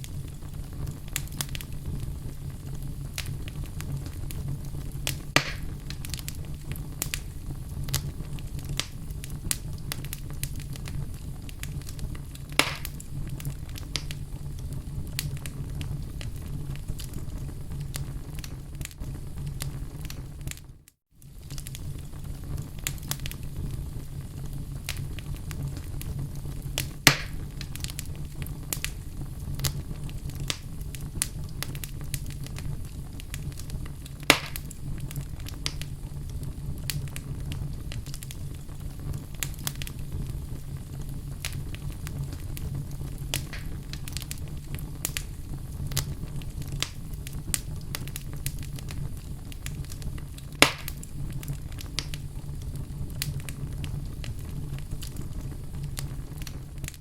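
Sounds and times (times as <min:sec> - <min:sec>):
loud sharp fire pops: 0:00.0 - 0:20.6, 0:24.4 - 0:57.0
fire crackling in fireplace: 0:00.0 - 0:57.0.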